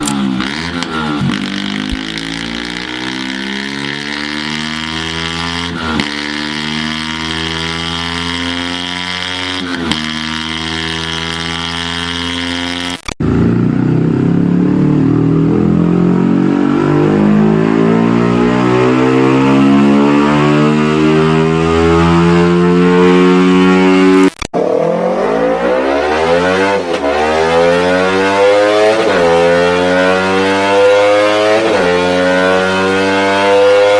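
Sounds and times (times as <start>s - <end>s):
motorcycles accelerating through gears: 0.0s - 33.9s.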